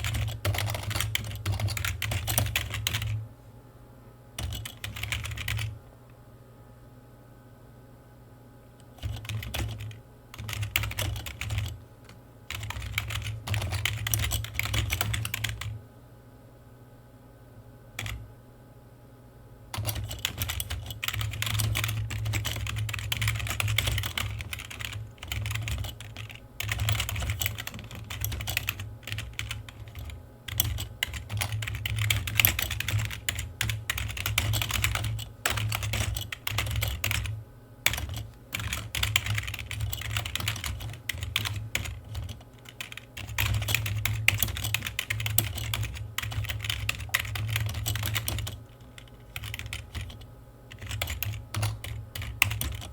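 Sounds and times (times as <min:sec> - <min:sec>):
keyboard typing: 0:00.0 - 0:03.2, 0:04.4 - 0:05.8, 0:08.8 - 0:15.8, 0:18.0 - 0:18.2, 0:19.8 - 0:52.9
steady low hum: 0:00.0 - 0:52.9.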